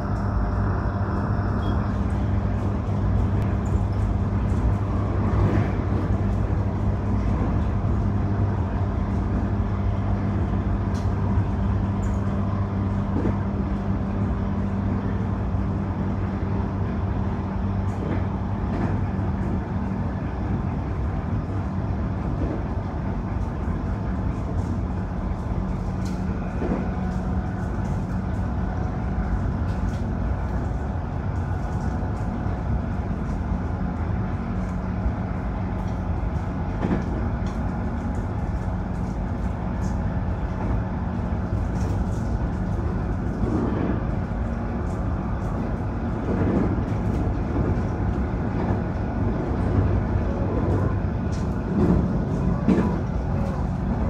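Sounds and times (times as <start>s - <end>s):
low hum: 0.0s - 54.0s
train wheels rumbling on rail: 0.0s - 54.0s.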